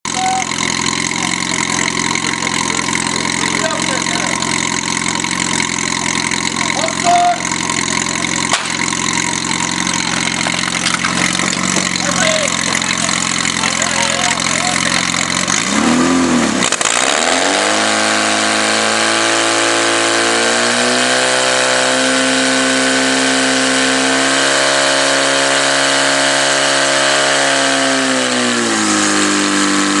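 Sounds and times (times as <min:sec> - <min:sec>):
pump engine revving: 0:00.0 - 0:30.0.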